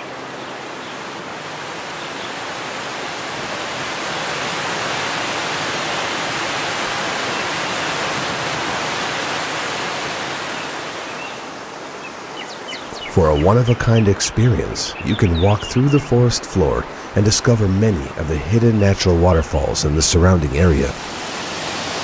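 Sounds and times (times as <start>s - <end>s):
river rapids rushing: 0.0s - 12.4s, 13.2s - 22.0s
small waterfall: 0.0s - 18.8s, 19.4s - 22.0s.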